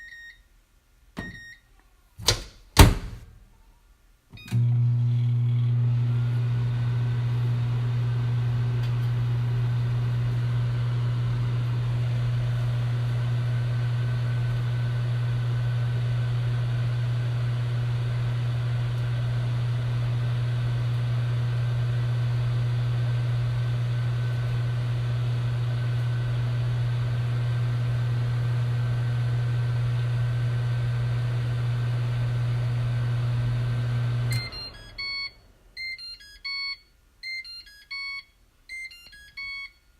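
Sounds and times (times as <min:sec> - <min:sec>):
microwave oven humming: 0:04.4 - 0:38.2.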